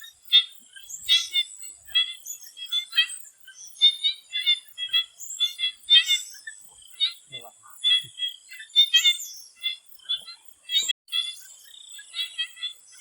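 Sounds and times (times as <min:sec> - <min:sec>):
frogs giving raspy calls: 0:00.0 - 0:13.0.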